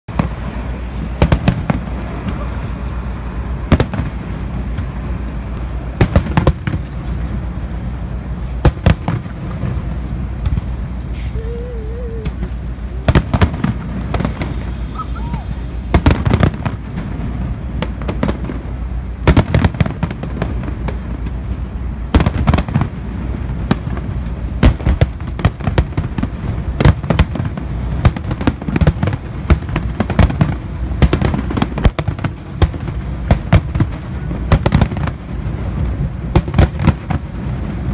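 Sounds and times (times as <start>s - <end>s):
fireworks shells booming: 0.1s - 37.9s.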